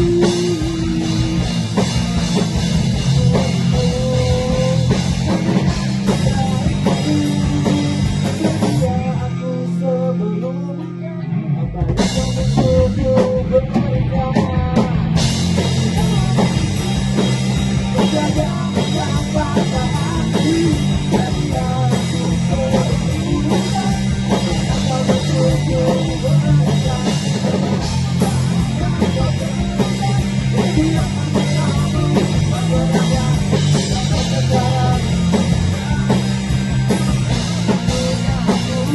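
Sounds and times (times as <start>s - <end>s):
bass guitar: 0.0s - 38.9s
drum kit: 0.0s - 38.9s
guitar: 0.0s - 38.9s.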